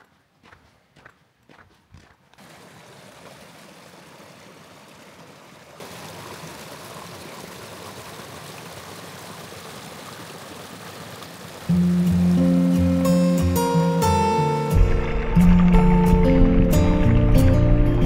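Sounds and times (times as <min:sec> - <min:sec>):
stream running over stones: 0:02.4 - 0:18.0.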